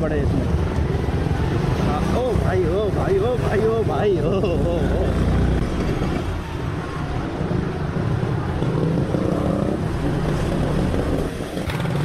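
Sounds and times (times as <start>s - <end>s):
tyres swishing on wet road: 0.0s - 12.0s.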